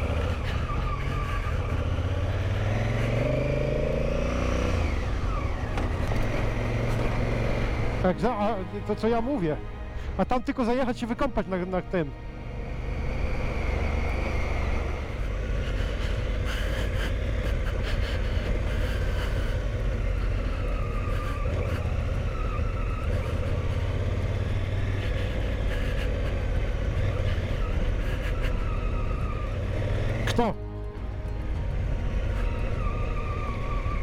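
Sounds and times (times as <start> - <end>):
motorcycle engine running: 0.0 - 9.0, 12.2 - 34.0
wind and road rumble: 0.0 - 34.0.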